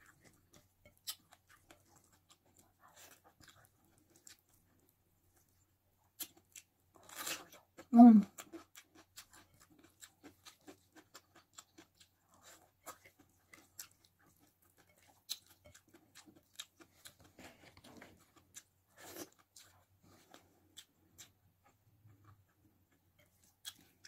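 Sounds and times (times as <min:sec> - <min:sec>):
soft wet chewing: 0:00.0 - 0:24.0.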